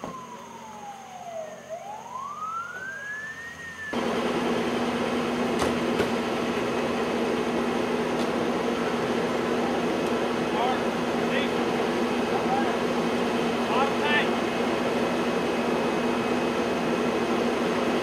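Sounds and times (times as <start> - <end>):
emergency siren wailing: 0.0 - 5.5, 6.5 - 18.0.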